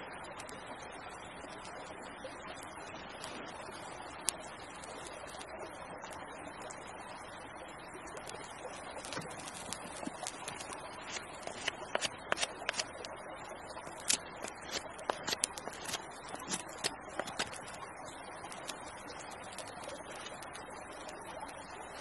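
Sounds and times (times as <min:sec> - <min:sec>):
campfire crackling and popping: 0:02.6 - 0:07.1, 0:07.9 - 0:22.0.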